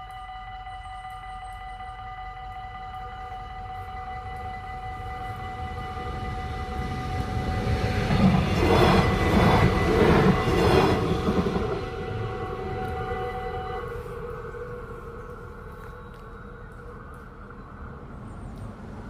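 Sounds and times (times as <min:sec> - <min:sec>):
diesel train passing: 0:00.0 - 0:19.0
level crossing warning bells: 0:00.0 - 0:19.0.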